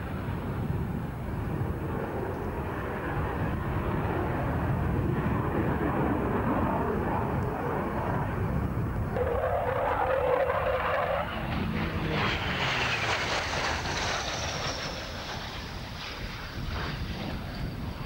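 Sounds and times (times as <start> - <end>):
high jet engine whine: 0.0 - 18.0
jet engine rumble: 0.0 - 18.0.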